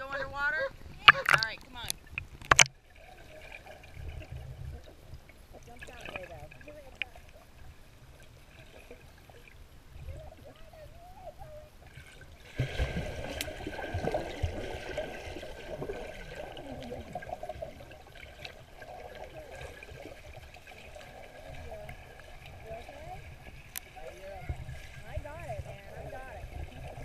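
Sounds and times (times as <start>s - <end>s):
muffled underwater pool water: 0.0s - 27.0s
churning bubbling water: 0.8s - 27.0s.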